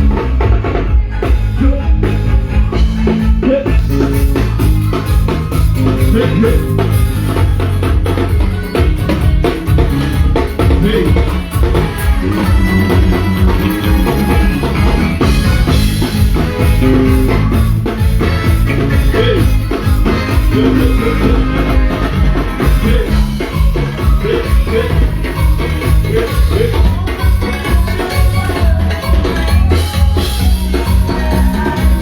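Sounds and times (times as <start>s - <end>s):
live band playing: 0.0s - 32.0s.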